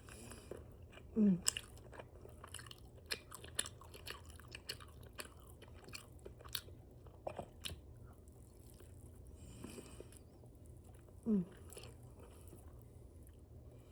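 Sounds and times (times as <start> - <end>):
open-mouthed chewing: 0.0 - 13.9.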